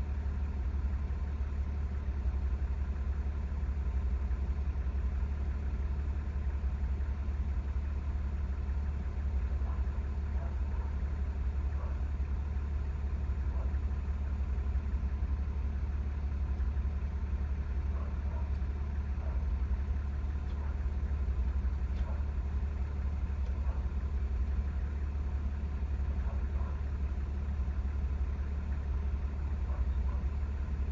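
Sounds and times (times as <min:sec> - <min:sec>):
fire engine idling: 0:00.0 - 0:30.9.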